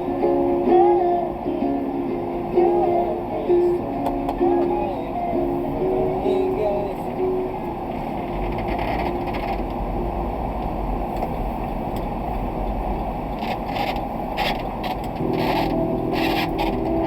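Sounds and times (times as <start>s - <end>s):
truck road and engine rumble: 0.0s - 17.0s.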